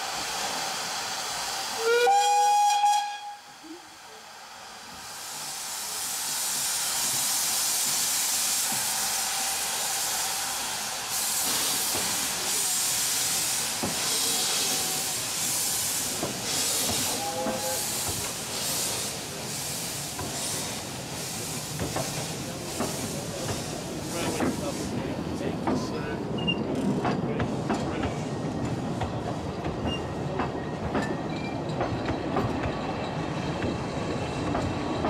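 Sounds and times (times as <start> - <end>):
steam engines hissing steam: 0.0 - 35.0.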